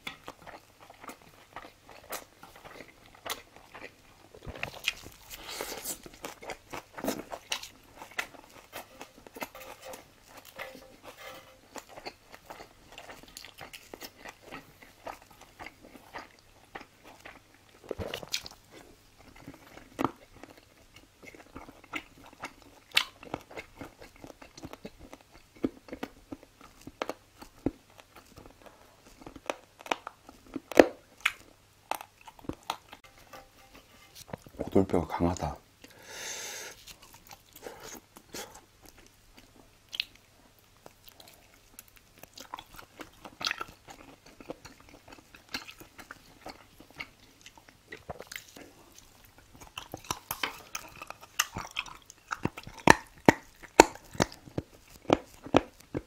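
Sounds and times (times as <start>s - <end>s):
chewing and biting food: 0.0s - 36.0s, 36.7s - 56.0s.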